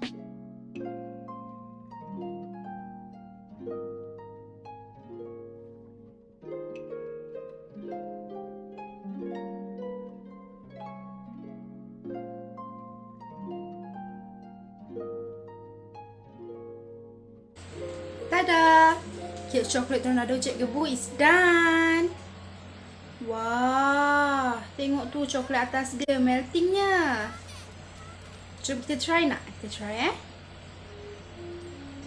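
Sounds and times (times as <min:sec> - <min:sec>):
gentle plucked-string music: 0:00.0 - 0:32.0.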